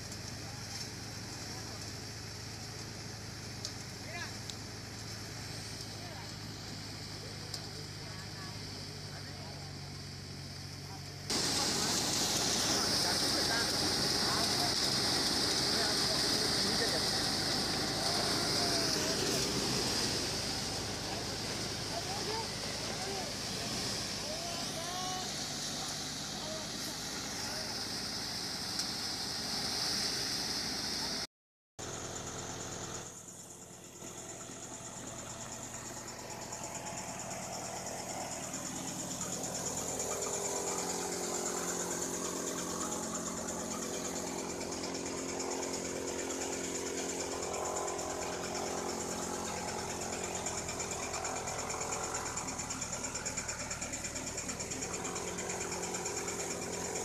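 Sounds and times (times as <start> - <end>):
crop thresher mechanical drone: 0.0 - 31.2, 31.8 - 57.0.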